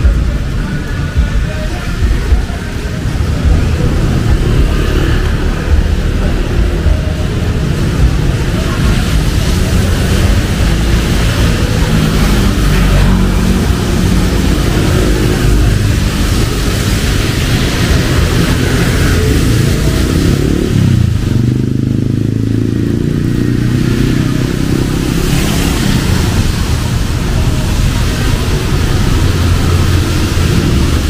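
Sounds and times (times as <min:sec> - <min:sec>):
motorcycle and car engines: 0:00.0 - 0:31.0
rain hiss: 0:00.0 - 0:31.0.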